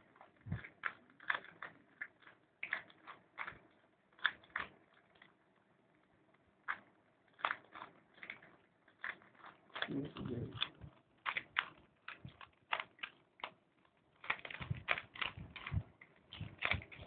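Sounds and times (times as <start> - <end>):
puzzle cube clicking as twisted: 0.1 - 5.4, 6.6 - 17.0.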